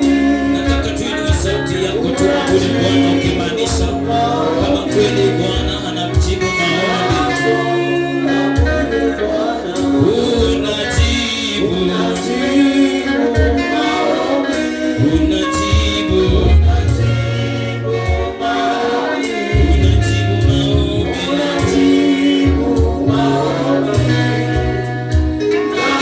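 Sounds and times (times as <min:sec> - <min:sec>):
band playing: 0:00.0 - 0:26.0
group of singers: 0:00.0 - 0:26.0.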